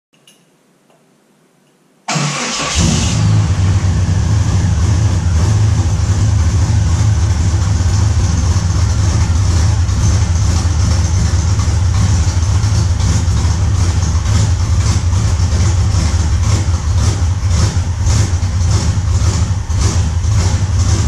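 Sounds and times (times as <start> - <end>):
engine starting and idling loudly: 2.1 - 21.0.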